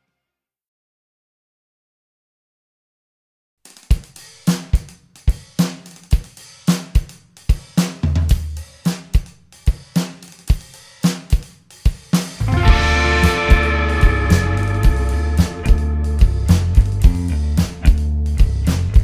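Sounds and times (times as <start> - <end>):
rock drum beat: 3.7 - 19.0.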